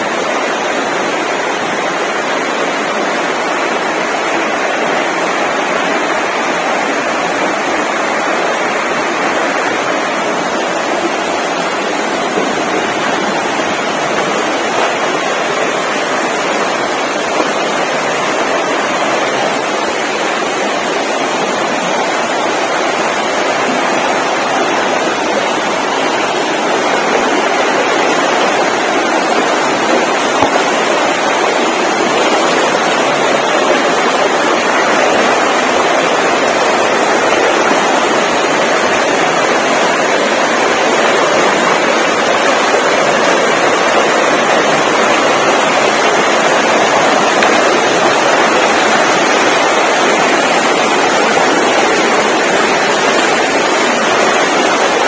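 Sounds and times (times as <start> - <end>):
loud steady rushing noise: 0.0 - 55.0.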